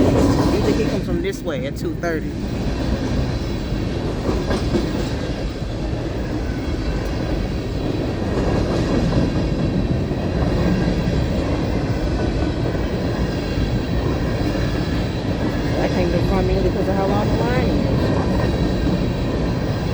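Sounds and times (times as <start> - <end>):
train wheels on rails: 0.0 - 19.9.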